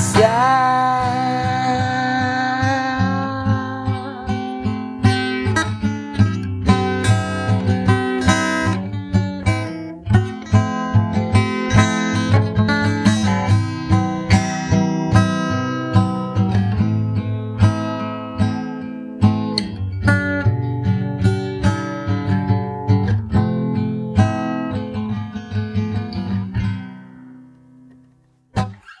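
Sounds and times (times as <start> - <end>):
rock song with strummed guitar: 0.0 - 27.0.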